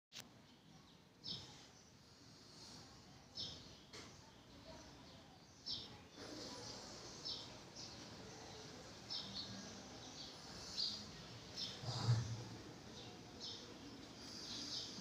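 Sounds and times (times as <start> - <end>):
faint room hiss: 0.2 - 15.0
small birds chirping: 0.4 - 15.0.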